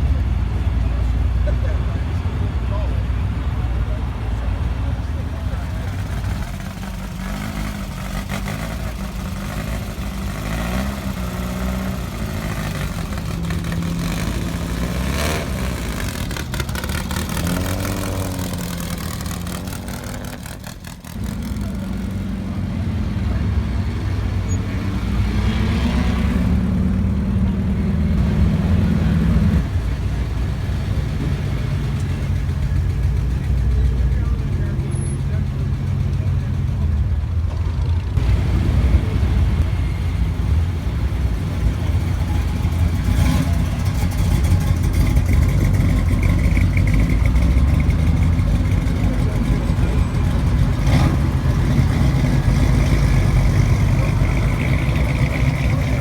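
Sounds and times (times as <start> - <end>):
car engines running at low revs: 0.0 - 56.0
loud engine running: 0.0 - 56.0.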